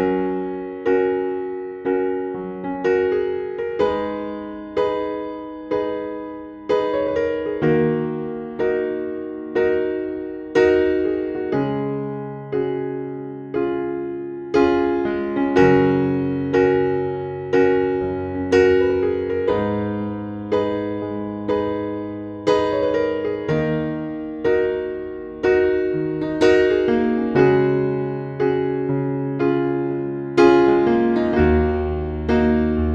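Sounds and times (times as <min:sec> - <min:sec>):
keyboard chords: 0:00.0 - 0:32.9.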